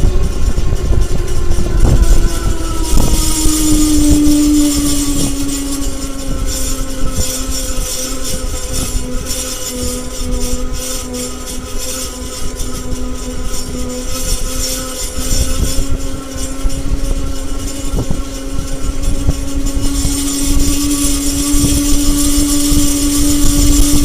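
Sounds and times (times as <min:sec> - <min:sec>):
electric motor high-pitched screech: 0:00.0 - 0:24.0
rushing background noise: 0:00.0 - 0:24.0.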